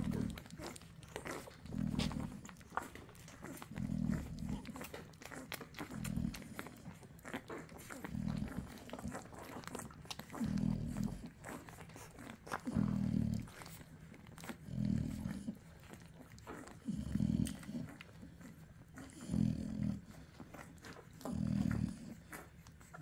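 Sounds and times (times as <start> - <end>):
puppies nursing clicks and smacks: 0.0 - 23.0
puppy grunts: 0.0 - 23.0.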